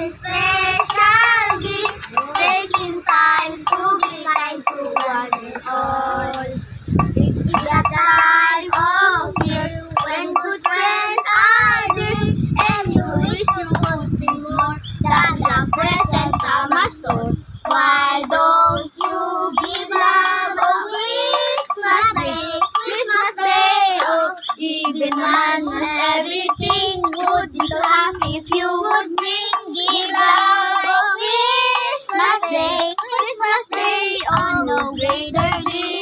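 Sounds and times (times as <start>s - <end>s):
children singing a carol: 0.0s - 36.0s
stick tapping tin-can drum: 0.0s - 36.0s.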